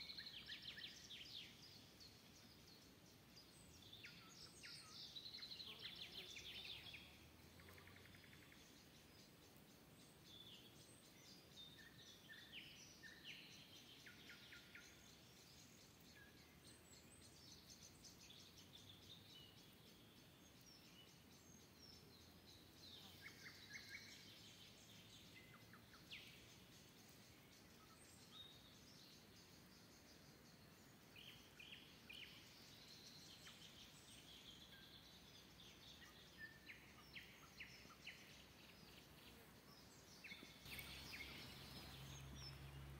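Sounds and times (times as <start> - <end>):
faint steady hiss: 0.0 - 42.9
songbirds singing: 0.0 - 42.9.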